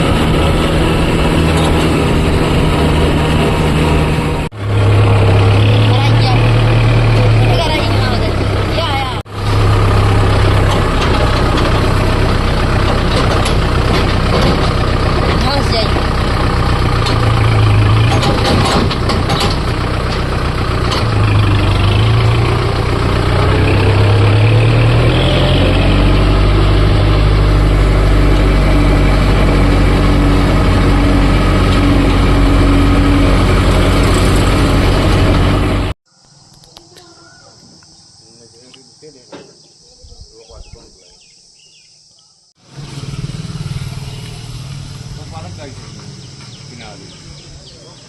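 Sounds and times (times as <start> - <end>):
tractor diesel engine running: 0.0 - 36.0, 42.6 - 48.0.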